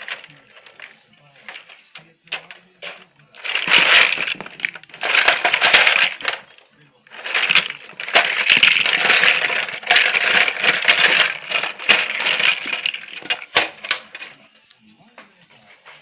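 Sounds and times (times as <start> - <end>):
plastic blocks clattering: 0.0 - 14.4.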